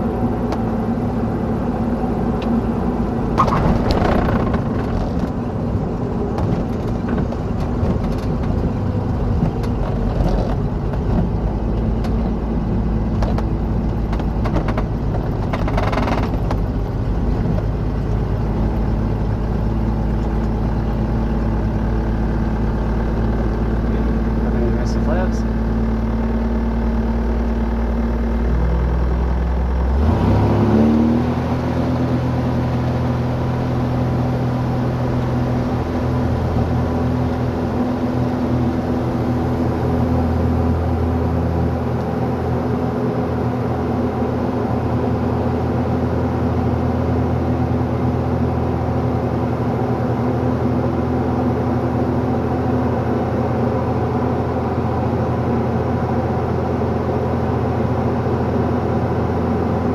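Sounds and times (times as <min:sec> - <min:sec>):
airplane engine and propeller: 0:00.0 - 0:59.9.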